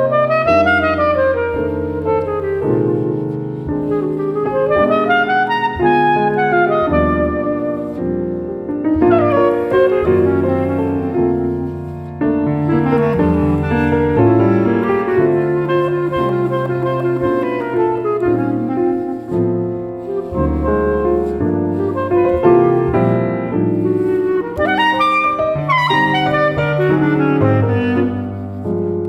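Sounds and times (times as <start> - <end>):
clarinet melody: 0.0 - 29.0
piano accompaniment: 0.0 - 29.0.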